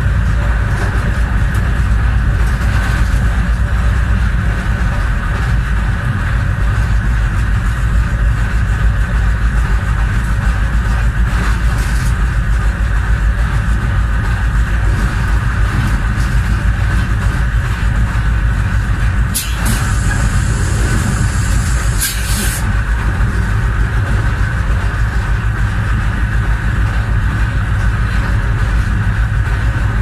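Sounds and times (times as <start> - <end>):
diesel locomotive rumbling: 0.0 - 30.0.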